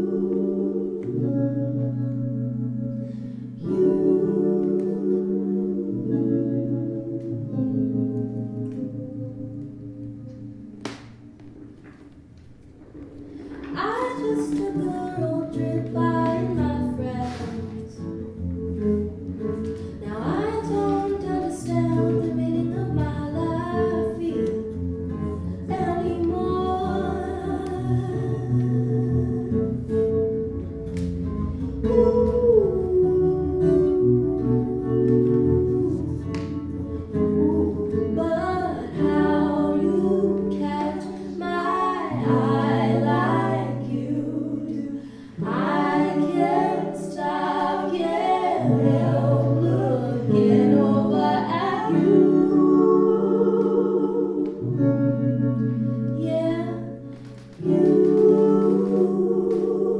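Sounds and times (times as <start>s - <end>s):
electric guitar: 0.0s - 59.9s
woman singing soul song: 3.5s - 9.7s, 13.3s - 18.4s, 19.6s - 30.5s, 31.7s - 59.9s.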